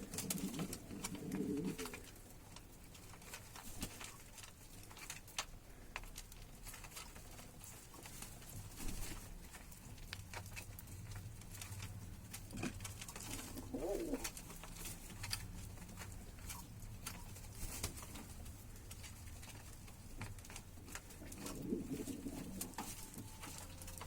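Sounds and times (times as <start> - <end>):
light clicks and scratches: 0.0 - 24.0.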